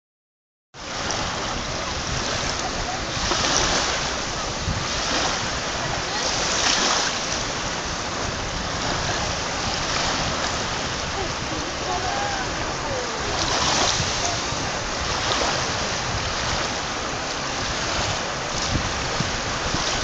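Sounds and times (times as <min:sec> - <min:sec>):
small waves washing over pebbles: 0:00.8 - 0:20.0.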